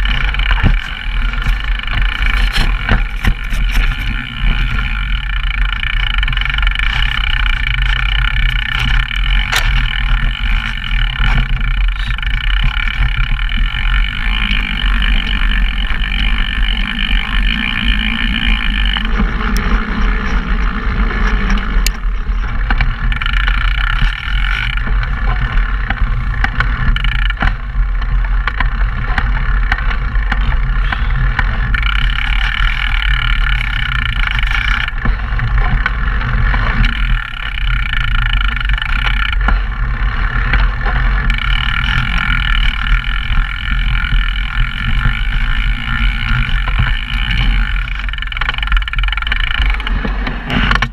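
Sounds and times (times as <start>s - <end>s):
bike rattling over ground: 0.0s - 50.9s
wind rumble on microphone: 0.0s - 50.9s.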